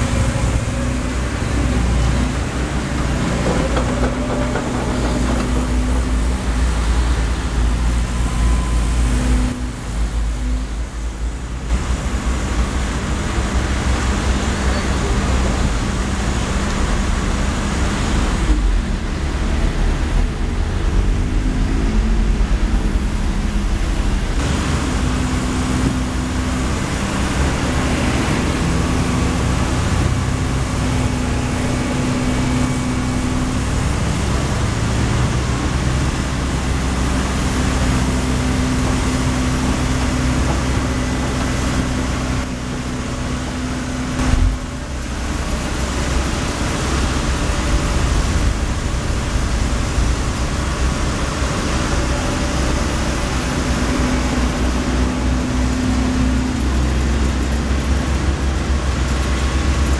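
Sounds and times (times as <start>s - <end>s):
excavator diesel engine running: 0.0s - 59.9s
road traffic passing: 0.0s - 59.9s.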